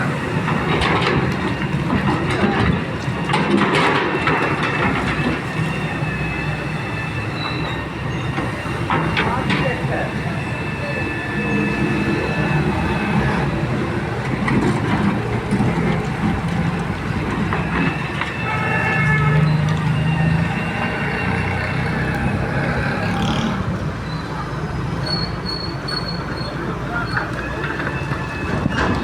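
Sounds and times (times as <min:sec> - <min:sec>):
excavator diesel engine: 0:00.0 - 0:29.0
high-pitched metal squeals: 0:04.0 - 0:14.1, 0:15.3 - 0:29.0.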